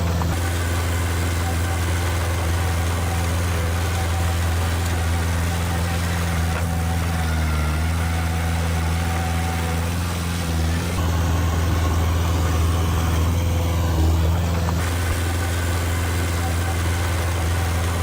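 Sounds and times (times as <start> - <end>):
heavy machinery diesel engine running: 0.0 - 18.0.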